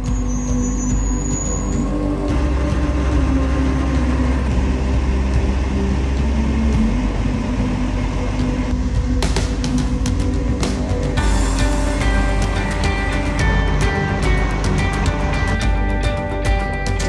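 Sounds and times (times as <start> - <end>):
heavy diesel engine rumbling: 0.0 - 17.0.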